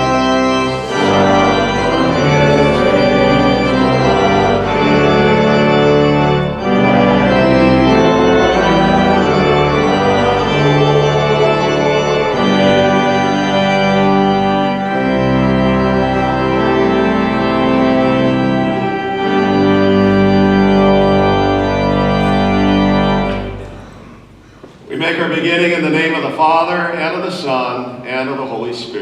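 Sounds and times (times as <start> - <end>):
low organ bass pedal notes: 0.0 - 24.4
church organ chords: 0.0 - 29.0.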